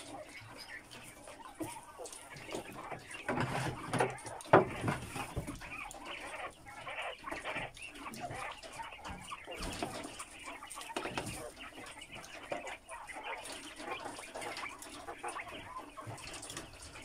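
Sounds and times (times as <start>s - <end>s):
quail clucking and calling: 0.0s - 17.0s.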